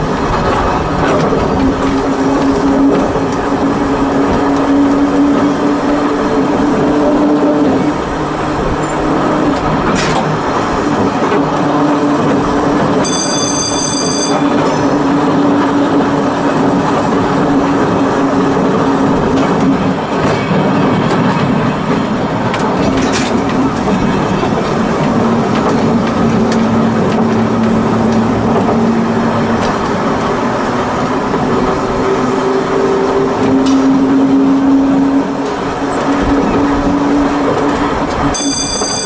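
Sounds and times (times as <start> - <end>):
wheels rolling on rails: 0.0 - 39.0.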